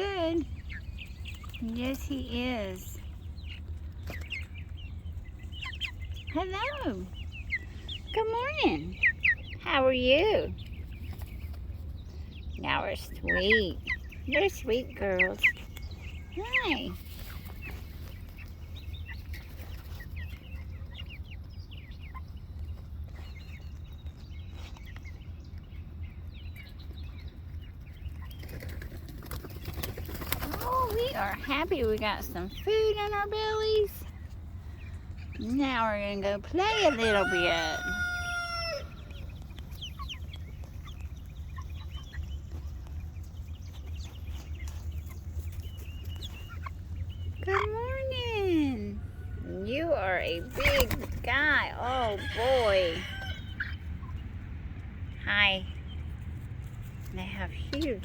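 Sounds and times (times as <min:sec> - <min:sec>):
steady low rumble: 0:00.0 - 0:37.8, 0:38.8 - 0:58.0
chicks peeping and cheeping: 0:00.0 - 0:58.0.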